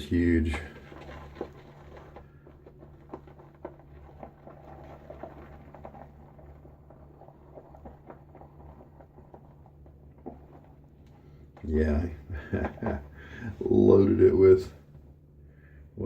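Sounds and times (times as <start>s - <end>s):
shaving brush wet squelches: 0.0s - 14.6s
low electrical hum: 0.0s - 16.0s.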